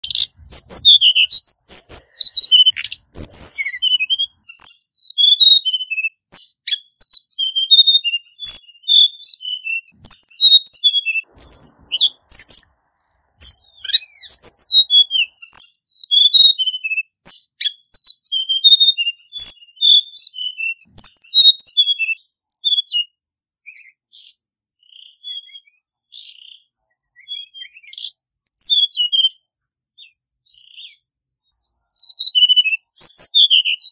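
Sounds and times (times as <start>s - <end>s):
bird singing high whistled notes: 0.0s - 33.9s.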